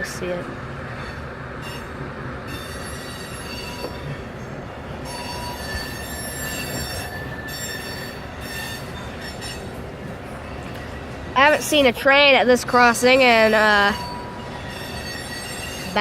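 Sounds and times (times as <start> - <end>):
freight train rumbling past: 0.0 - 16.0
steel wheels squealing: 0.9 - 16.0.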